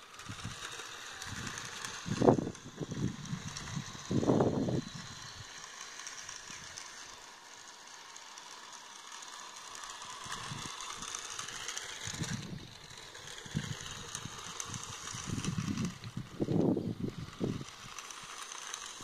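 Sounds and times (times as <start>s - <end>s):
high motor whine: 0.0s - 19.0s
toy car motor whirring: 0.0s - 19.0s.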